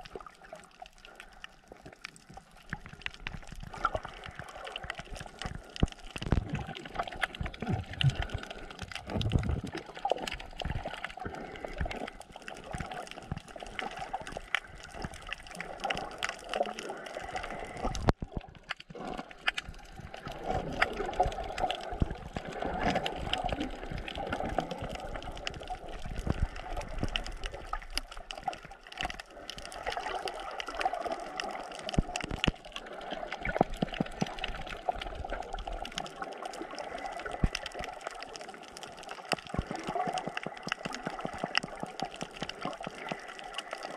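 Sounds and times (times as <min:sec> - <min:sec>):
muffled underwater water gurgling: 0:00.0 - 0:43.9
small irregular clicks: 0:00.0 - 0:43.9.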